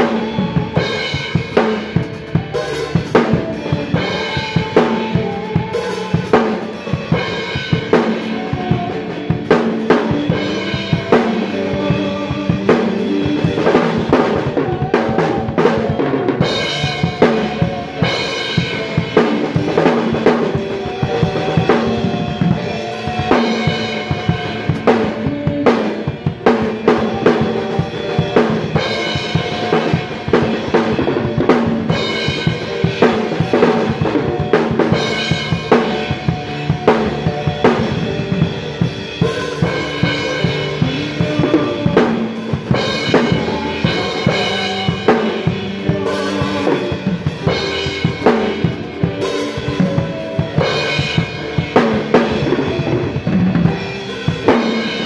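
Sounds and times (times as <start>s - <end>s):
drum kit groove: 0.0s - 55.0s.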